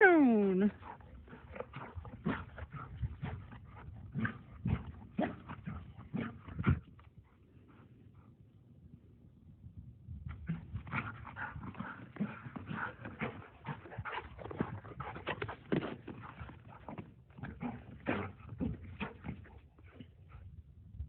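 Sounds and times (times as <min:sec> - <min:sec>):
dog panting: 0:00.7 - 0:08.4, 0:11.0 - 0:20.5.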